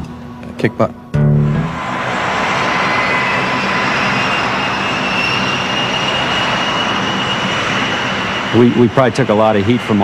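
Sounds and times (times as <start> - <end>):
jet engines running: 1.4 - 10.0.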